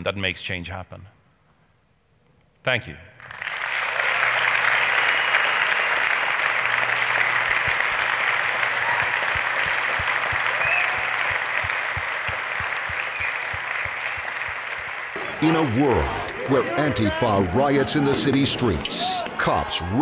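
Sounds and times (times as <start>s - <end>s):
audience applauding: 3.2s - 20.0s.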